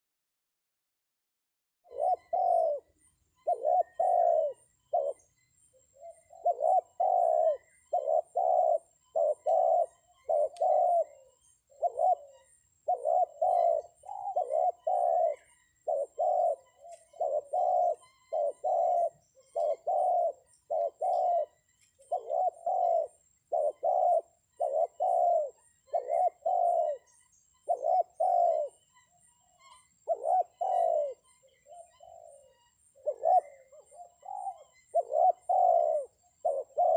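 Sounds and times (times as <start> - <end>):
dove cooing: 1.9 - 28.9, 29.6 - 36.9.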